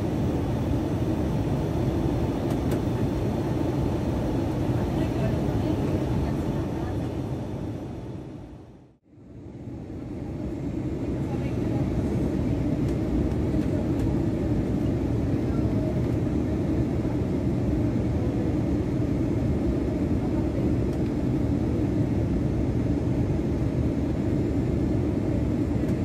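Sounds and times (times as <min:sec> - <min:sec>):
jet engine and airflow rumble: 0:00.0 - 0:26.0.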